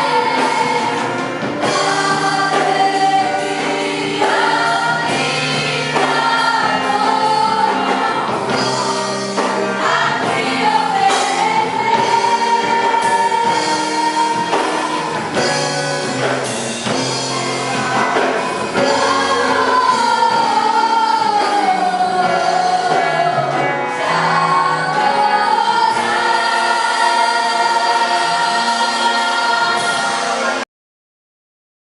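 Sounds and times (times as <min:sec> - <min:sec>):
gospel choir singing: 0:00.0 - 0:30.6
musical accompaniment: 0:00.0 - 0:30.6.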